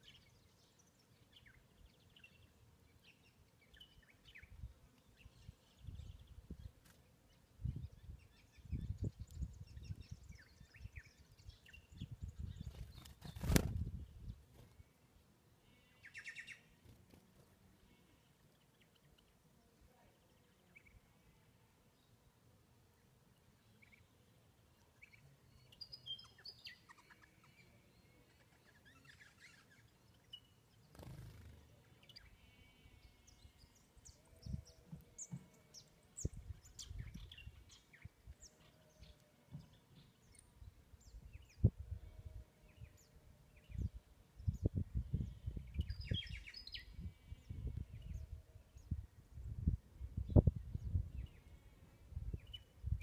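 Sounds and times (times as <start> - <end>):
birds chirping and trilling: 0.0 - 19.4, 23.0 - 53.0.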